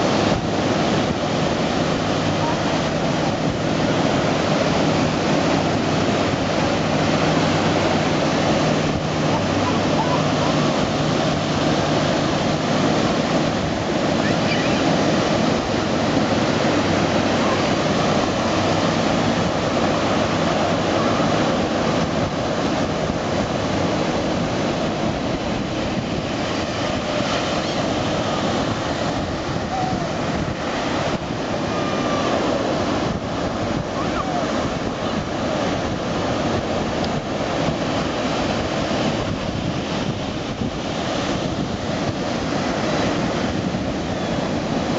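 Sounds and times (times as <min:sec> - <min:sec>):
ocean surf breaking: 0:00.0 - 0:44.9.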